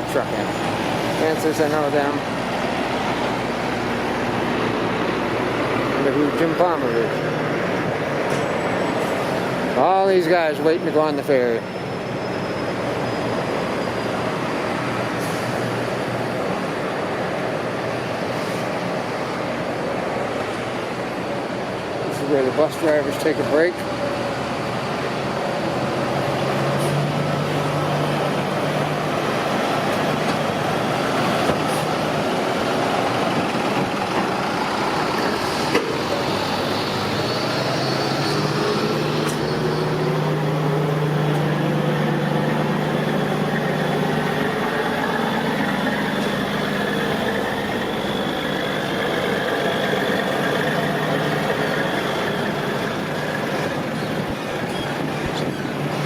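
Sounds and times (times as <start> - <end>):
diesel engines humming: 0.0 - 56.0
road traffic: 0.0 - 56.0.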